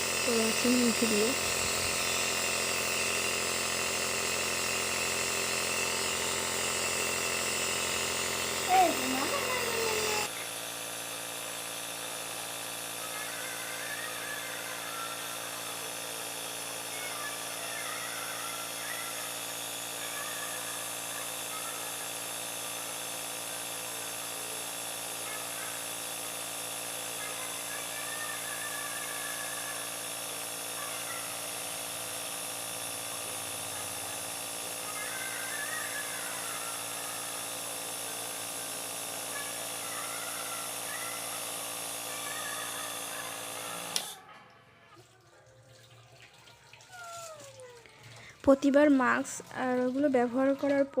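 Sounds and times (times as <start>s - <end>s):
nebulizer motor humming: 0.0s - 44.3s.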